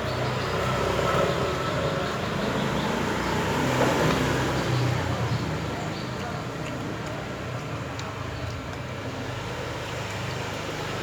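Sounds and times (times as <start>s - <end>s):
road traffic rushing: 0.0s - 11.0s.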